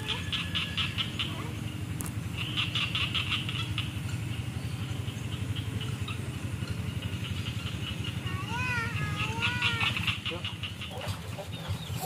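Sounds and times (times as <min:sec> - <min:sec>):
frog calling in pulsed trains: 0:00.0 - 0:12.0
steady low hum: 0:00.0 - 0:12.0.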